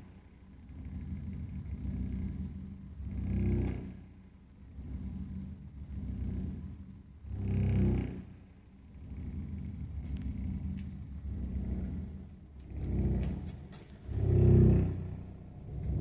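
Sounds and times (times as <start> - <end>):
gas boiler pulsing rumble: 0.0 - 16.0.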